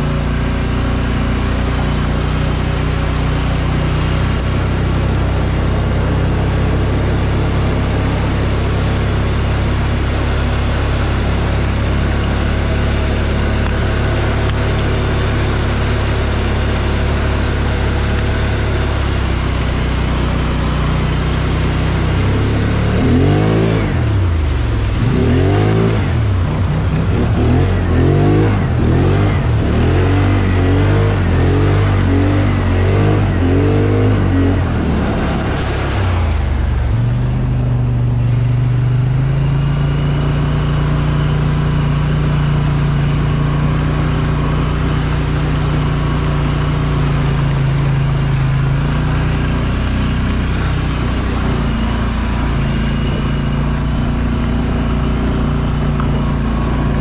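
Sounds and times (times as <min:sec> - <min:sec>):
vehicle engine revving: 0:00.0 - 0:57.0.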